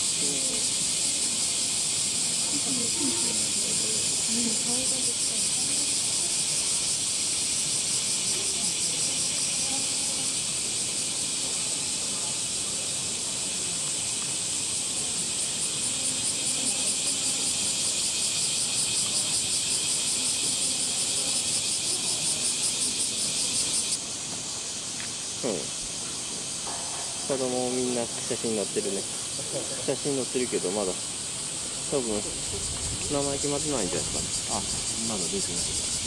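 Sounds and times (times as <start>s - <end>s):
cicadas chorus: 0.0s - 36.0s.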